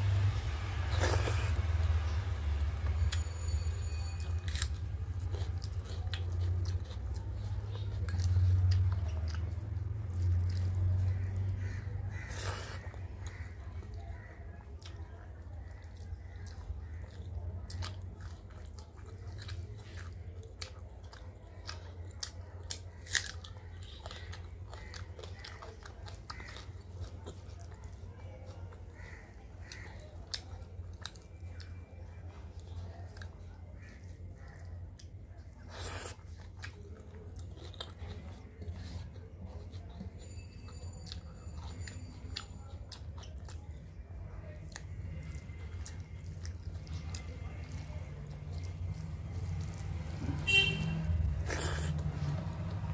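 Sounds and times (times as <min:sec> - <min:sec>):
person chewing with mouth sounds: 0:00.6 - 0:03.2, 0:04.4 - 0:40.4, 0:41.1 - 0:52.9.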